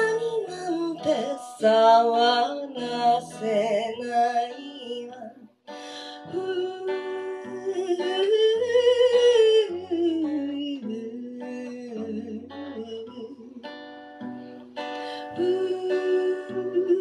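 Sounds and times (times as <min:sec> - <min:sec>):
strummed acoustic guitar: 0:00.0 - 0:17.0
woman singing wordless melody: 0:00.0 - 0:17.0.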